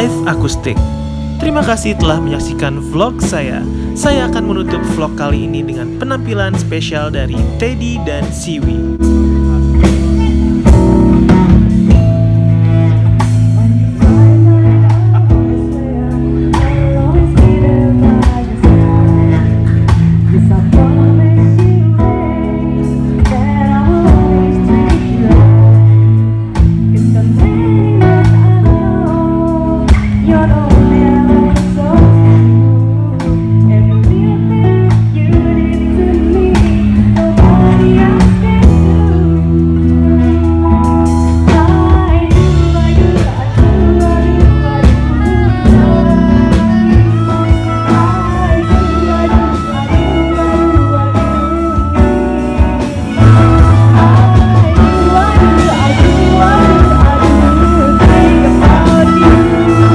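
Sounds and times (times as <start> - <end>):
acoustic guitar: 0.0 - 59.9
bass guitar: 0.0 - 59.9
drums: 0.0 - 59.9
woman singing: 9.7 - 59.9.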